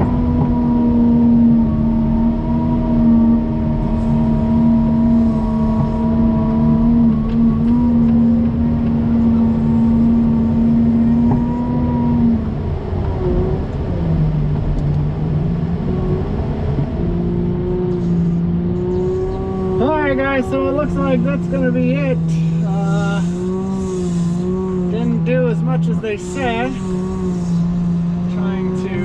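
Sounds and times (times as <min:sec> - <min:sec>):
snow plow engine running: 0:00.0 - 0:29.0.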